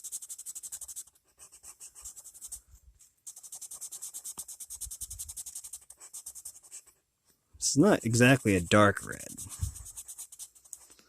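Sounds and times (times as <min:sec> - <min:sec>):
pencil scratching on paper: 0:00.0 - 0:02.7, 0:03.3 - 0:07.1, 0:07.8 - 0:11.0.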